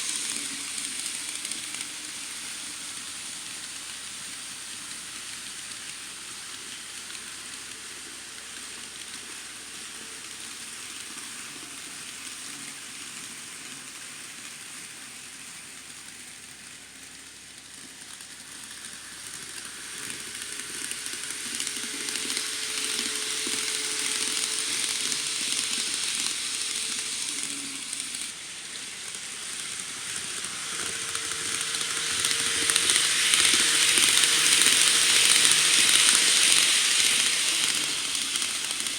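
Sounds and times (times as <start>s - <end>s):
model train wheels rattling on rail: 0.0s - 12.8s, 15.2s - 38.9s
faint motor whine: 0.0s - 38.9s.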